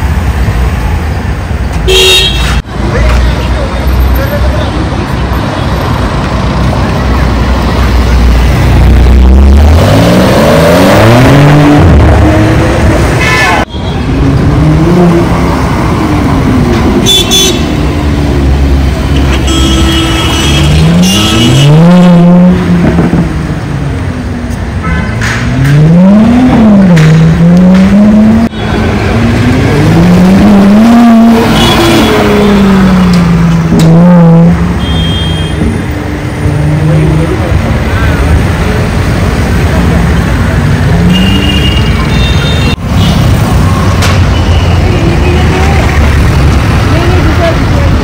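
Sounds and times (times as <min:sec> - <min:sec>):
sports car engines revving: 0:00.0 - 0:13.2, 0:14.0 - 0:48.0
street traffic: 0:00.0 - 0:48.0.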